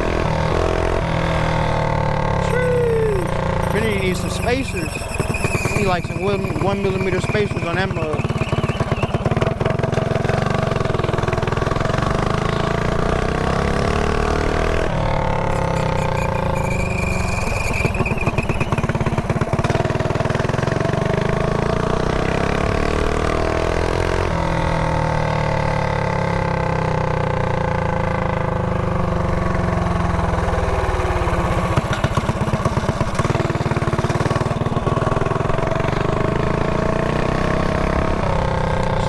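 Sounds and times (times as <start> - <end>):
mini bike engine revving: 0.0 - 39.0.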